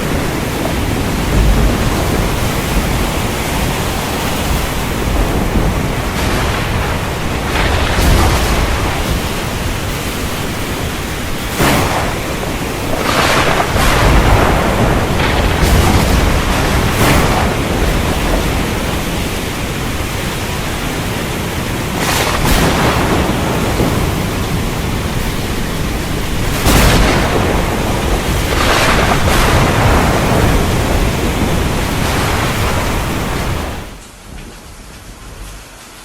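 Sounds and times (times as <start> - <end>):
thunder cracks and rumbling: 0.0 - 34.0
heavy rain: 0.0 - 36.0
wind: 0.0 - 36.0.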